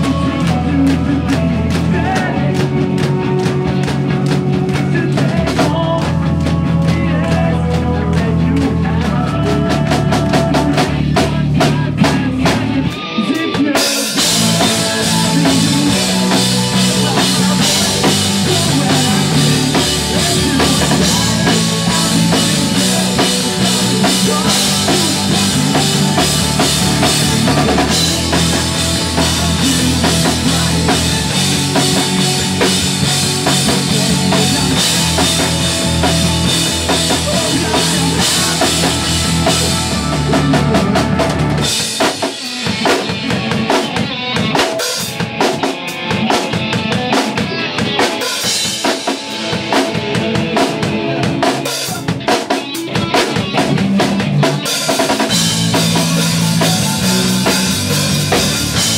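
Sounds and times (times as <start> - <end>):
pop-punk band playing live: 0.0 - 58.9.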